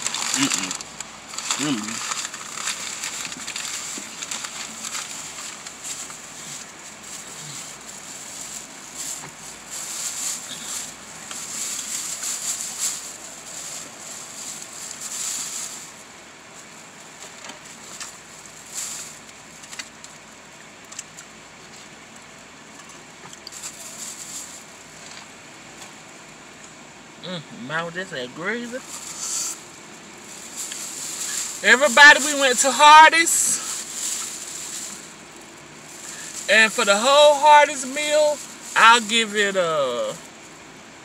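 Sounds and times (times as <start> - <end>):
plastic bag and wrappers rustling: 0.0 - 26.2, 28.7 - 40.7.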